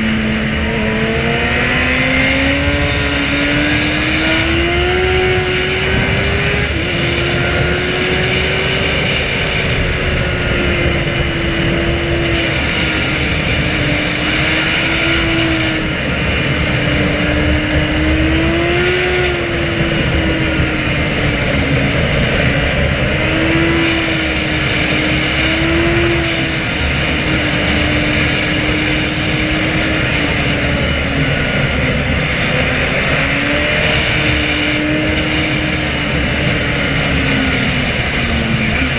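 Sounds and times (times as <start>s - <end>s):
loud rushing noise: 0.0s - 38.9s
motorcycle engine running hard: 0.0s - 38.9s.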